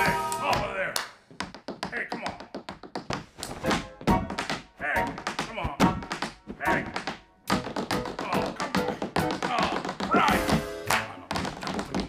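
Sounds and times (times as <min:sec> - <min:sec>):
tap shoes on tabletop: 0:01.3 - 0:12.0.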